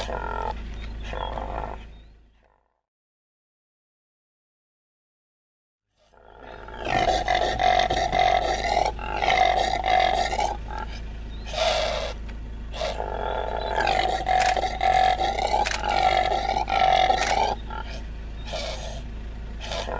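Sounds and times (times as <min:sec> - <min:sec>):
impala harsh calls: 0:00.0 - 0:02.6, 0:06.0 - 0:19.9.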